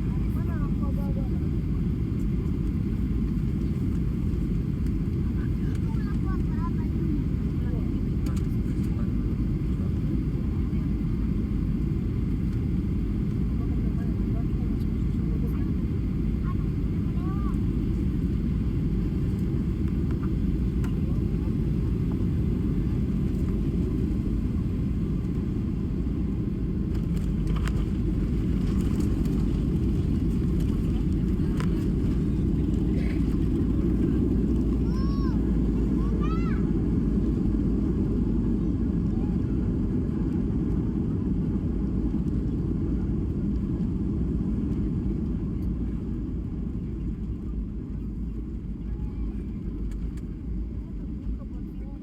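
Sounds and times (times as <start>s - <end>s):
jet airliner cabin rumble: 0.0s - 52.0s.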